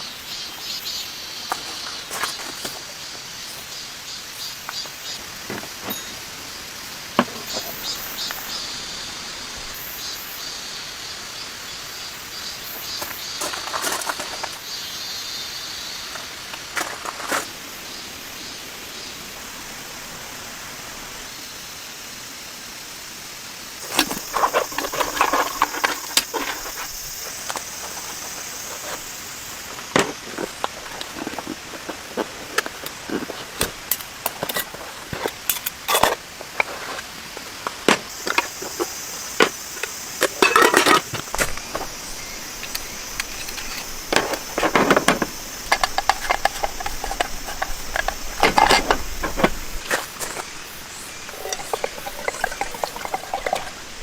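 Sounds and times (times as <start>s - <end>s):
rain hiss: 0.0s - 54.0s.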